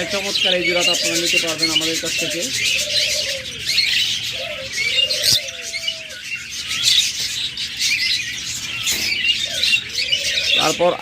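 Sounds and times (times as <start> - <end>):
doves cooing: 0.0 - 11.0
small cage birds chirping: 0.0 - 11.0.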